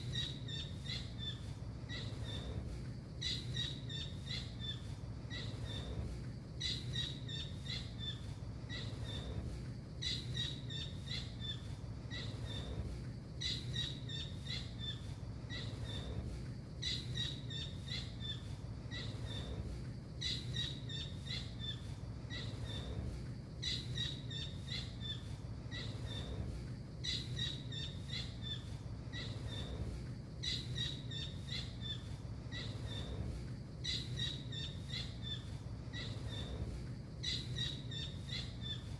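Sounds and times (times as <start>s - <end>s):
bird chirping: 0.0s - 38.9s
steady low hum: 0.0s - 38.9s.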